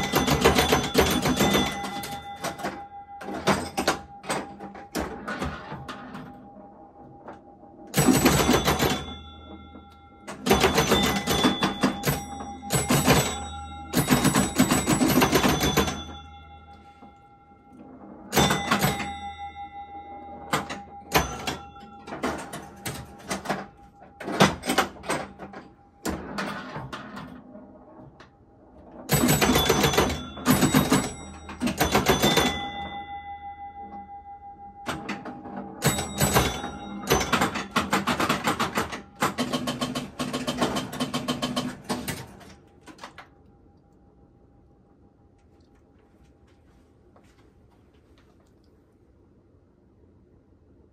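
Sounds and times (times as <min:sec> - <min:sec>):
pinball relay clatter: 0:00.0 - 0:43.4
pinball chime bells: 0:00.0 - 0:43.6
faint hum: 0:00.0 - 0:50.9.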